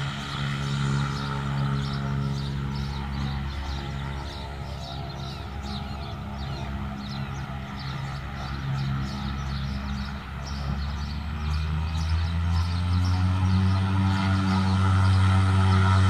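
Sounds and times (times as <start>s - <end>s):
turboprop plane droning: 0.0s - 16.0s.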